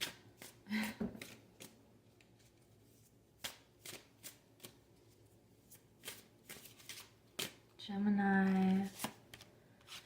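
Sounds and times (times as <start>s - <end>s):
cards being shuffled: 1.2s - 7.6s, 8.4s - 10.0s.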